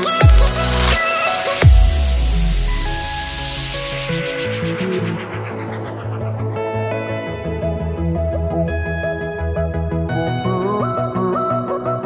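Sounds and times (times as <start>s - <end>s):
pulsing bass: 0.0s - 1.0s, 1.6s - 11.4s
instrumental music: 0.0s - 12.0s.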